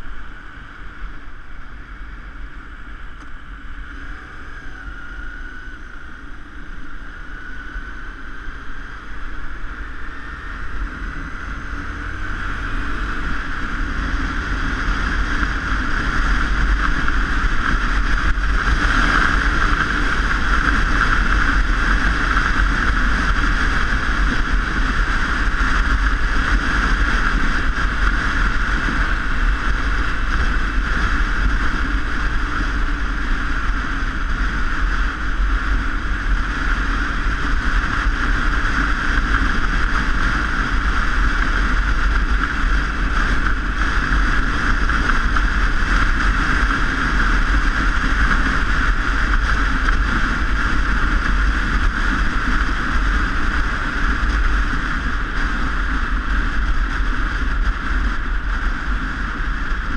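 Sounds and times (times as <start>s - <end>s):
bike road noise rumble: 0.0s - 59.9s
wind noise: 0.0s - 59.9s.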